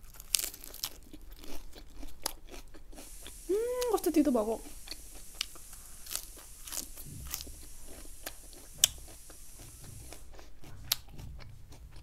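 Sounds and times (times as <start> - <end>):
lettuce crunching: 0.0 - 12.0
low chewing rumble: 0.0 - 12.0.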